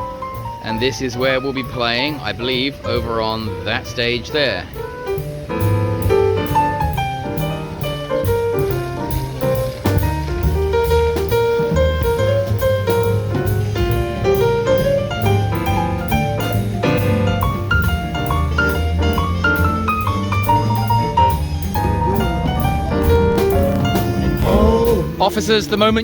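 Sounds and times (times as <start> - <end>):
bass: 0.0 - 26.0
jazz piano: 0.0 - 26.0
drums with cymbal beat: 4.7 - 26.0.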